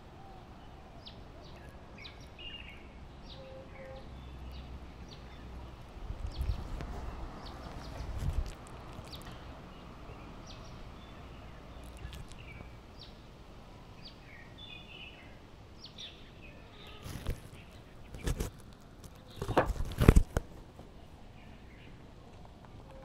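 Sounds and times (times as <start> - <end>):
small birds chirping: 0.0 - 23.0
wind rustling through trees: 0.0 - 23.0.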